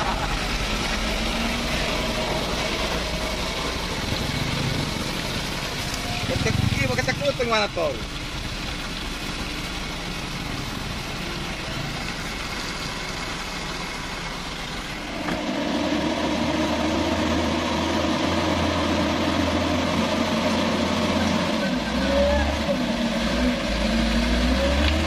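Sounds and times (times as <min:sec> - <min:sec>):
diesel truck engines running: 0:00.0 - 0:25.0
truck engine pulling uphill: 0:00.0 - 0:25.0.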